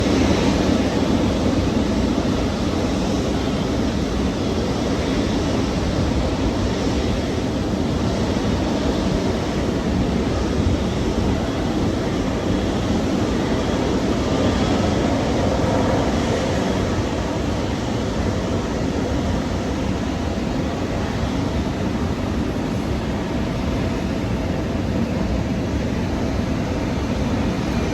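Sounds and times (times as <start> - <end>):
jet airliner engines on takeoff: 0.0 - 27.9.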